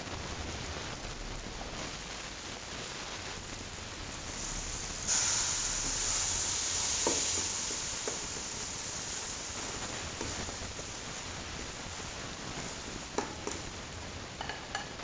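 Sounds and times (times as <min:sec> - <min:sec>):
chili paste sizzling in oil: 0:00.0 - 0:15.0.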